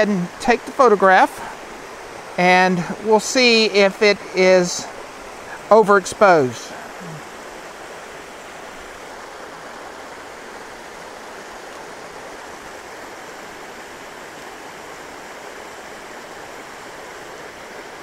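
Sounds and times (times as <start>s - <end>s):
stream tumbling over rocks: 0.0s - 18.0s.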